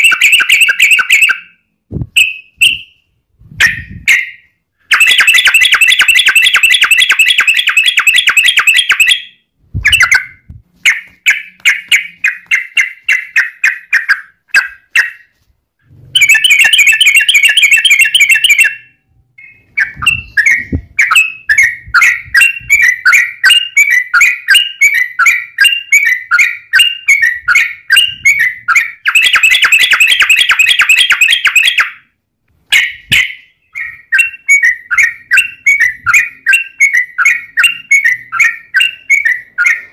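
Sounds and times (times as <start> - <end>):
bird chirps: 0.0 - 32.1, 32.7 - 39.9.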